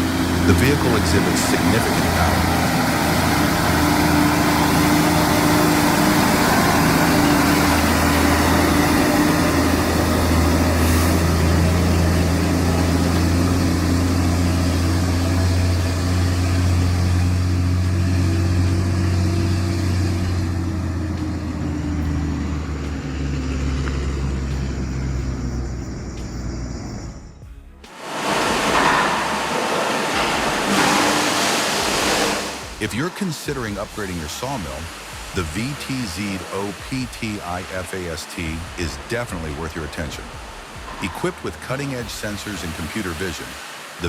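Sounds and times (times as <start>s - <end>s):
heavy truck engine running: 0.0s - 43.4s.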